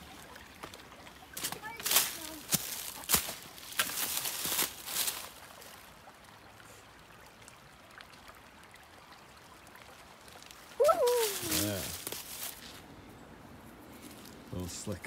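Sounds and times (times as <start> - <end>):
creek trickling: 0.0 - 15.0.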